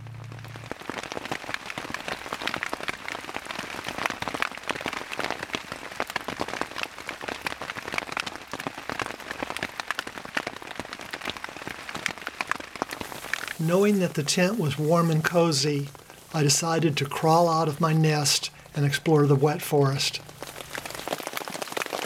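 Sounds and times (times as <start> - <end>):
heavy rain on tent: 0.0 - 22.0.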